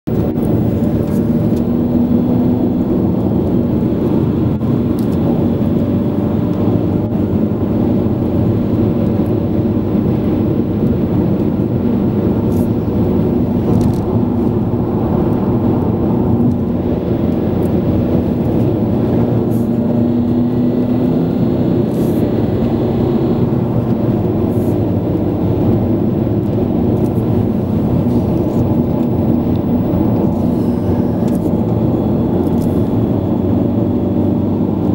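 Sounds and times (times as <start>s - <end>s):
car engine and tyre noise: 0.1s - 34.9s.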